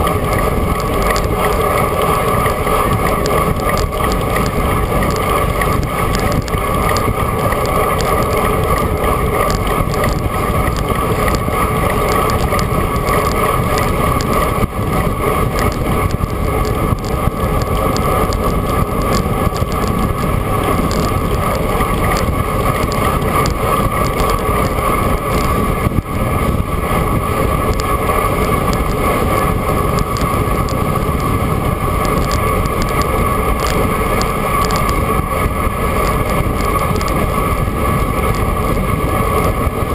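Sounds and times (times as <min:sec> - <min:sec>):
steady hum: 0:00.0 - 0:39.9
wind on microphone: 0:00.0 - 0:39.9.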